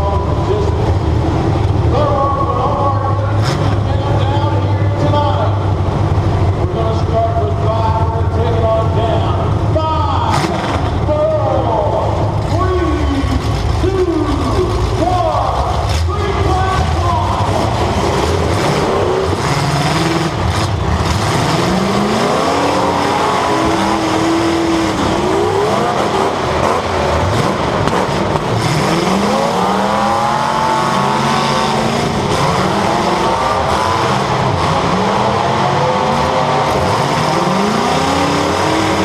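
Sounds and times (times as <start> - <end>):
car engines revving hard: 0.0 - 39.0.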